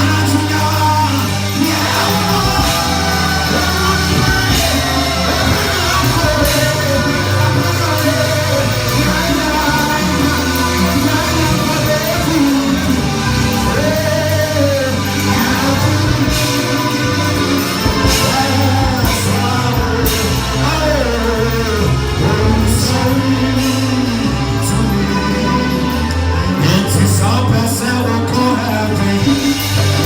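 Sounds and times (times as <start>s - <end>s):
band accompaniment with bass: 0.0s - 30.0s
person singing gospel: 0.0s - 30.0s.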